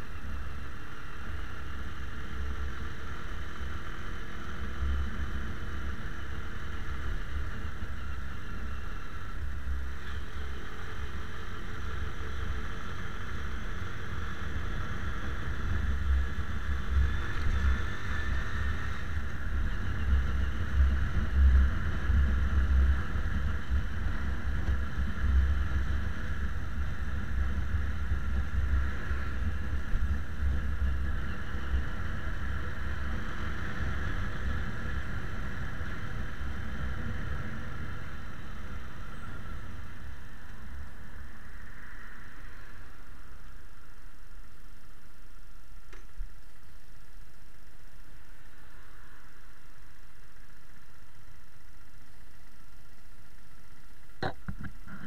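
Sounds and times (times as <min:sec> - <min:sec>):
wind rumble on microphone: 0:00.0 - 0:45.4.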